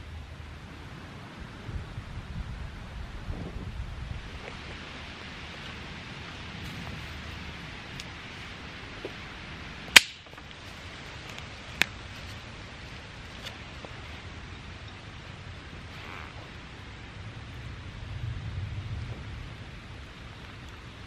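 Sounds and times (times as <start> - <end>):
outdoor wind hiss: 0.0 - 21.0.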